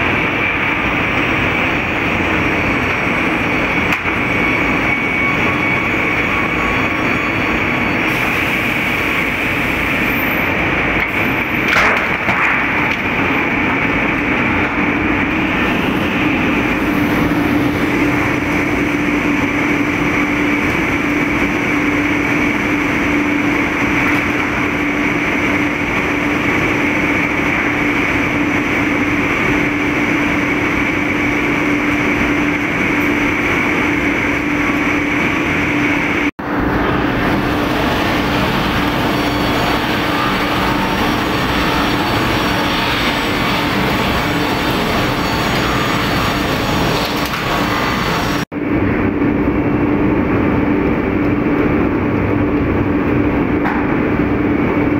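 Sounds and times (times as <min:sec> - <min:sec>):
sawmill machine noise: 0:00.0 - 0:48.5
high whine: 0:00.0 - 0:54.9.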